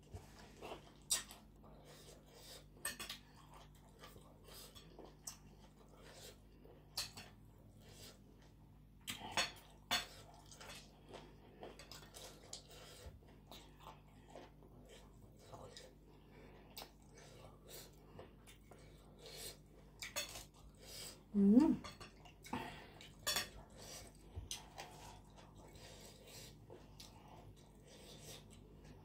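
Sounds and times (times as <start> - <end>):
soft chewing: 0.0 - 29.0.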